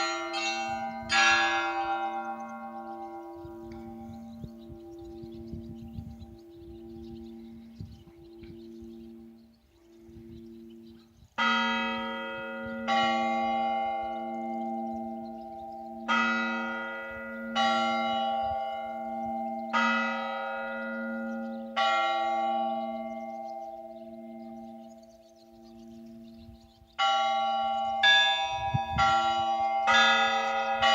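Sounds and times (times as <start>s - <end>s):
church bells ringing: 0.0s - 30.9s.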